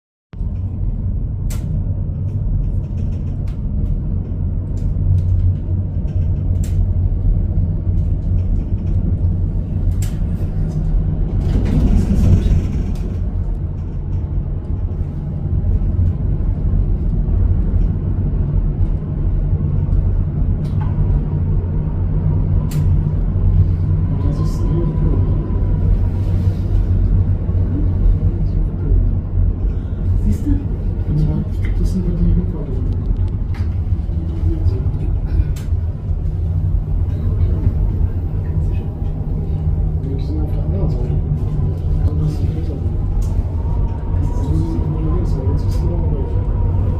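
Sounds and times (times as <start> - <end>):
vehicle rumble: 0.4 - 46.9.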